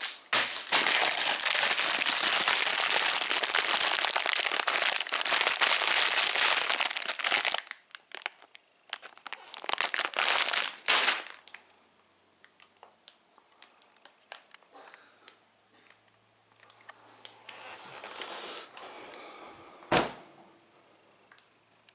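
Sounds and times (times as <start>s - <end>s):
candy packaging crinkling: 0.0s - 11.7s, 12.4s - 18.9s.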